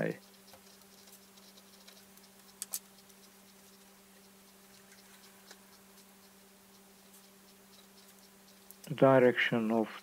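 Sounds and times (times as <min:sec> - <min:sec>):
faint low hum: 0:00.0 - 0:10.0
light ticks: 0:00.1 - 0:09.1
sharp clicks: 0:00.2 - 0:09.0.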